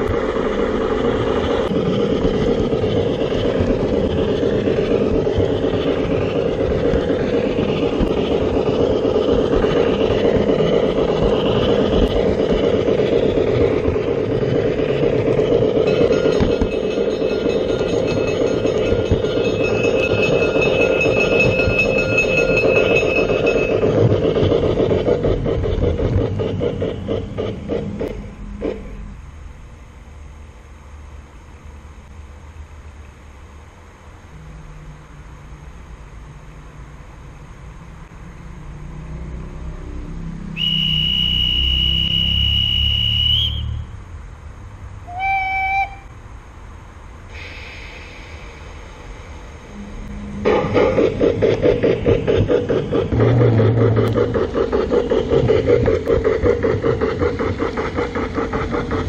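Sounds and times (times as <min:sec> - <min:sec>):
model steam locomotive running sound: 0:00.0 - 0:59.0
wheels rolling on rails: 0:00.0 - 0:59.0.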